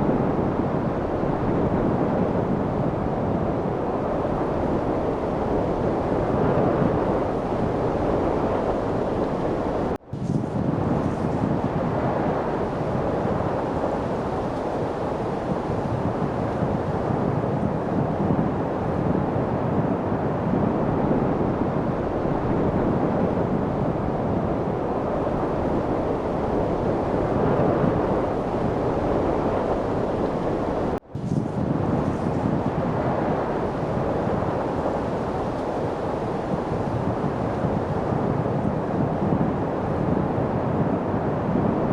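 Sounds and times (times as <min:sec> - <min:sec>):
rushing wind: 0:00.0 - 0:41.9.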